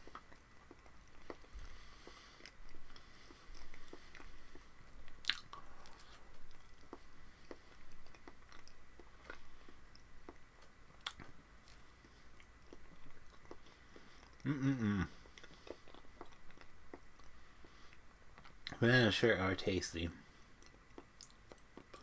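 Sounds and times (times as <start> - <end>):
person chewing banana: 0.0 - 18.8, 20.3 - 22.0.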